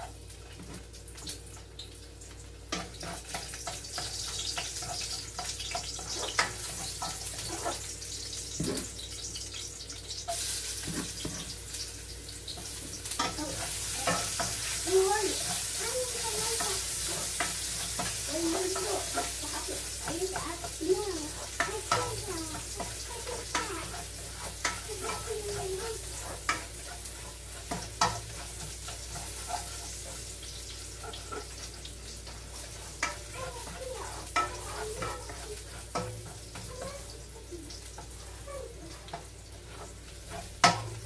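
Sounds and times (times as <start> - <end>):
food sizzling in oil: 0.0 - 41.0
spoon scraping a frying pan: 2.7 - 11.9, 12.5 - 41.0.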